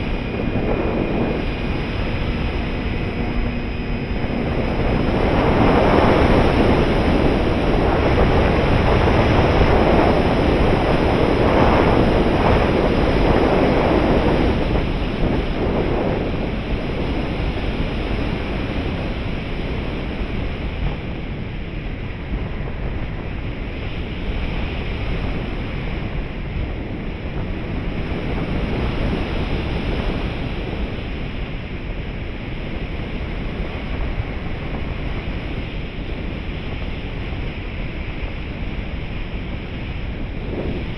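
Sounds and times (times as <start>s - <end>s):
rushing wind noise: 0.0s - 40.9s.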